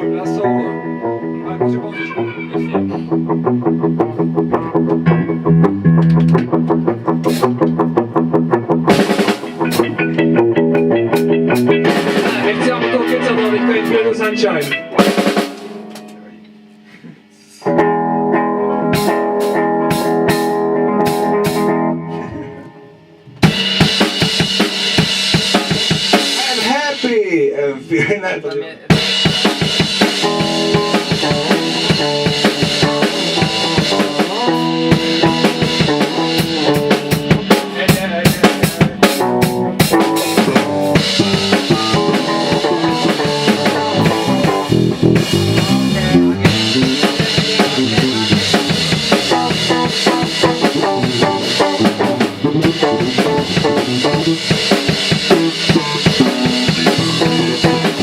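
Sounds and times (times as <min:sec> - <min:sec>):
band playing: 0:00.0 - 0:27.6, 0:28.9 - 0:58.0
drum kit with bass drum and snare: 0:02.0 - 0:22.6, 0:23.3 - 0:27.3, 0:28.9 - 0:58.0.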